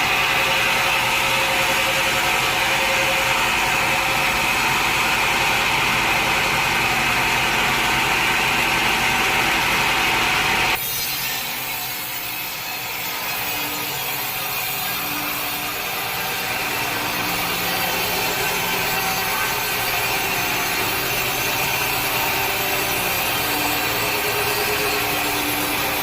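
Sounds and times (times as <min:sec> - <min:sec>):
saw cutting through log: 0:00.0 - 0:26.0.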